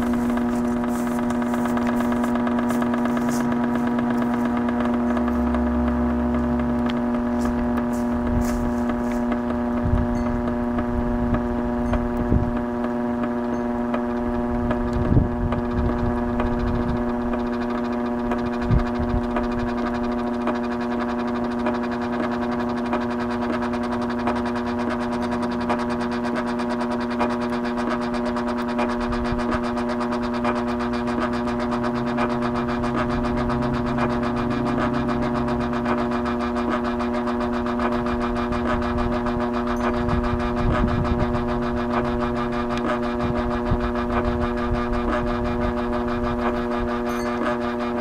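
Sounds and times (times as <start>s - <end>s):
vacuum cleaner motor running: 0.0s - 48.0s.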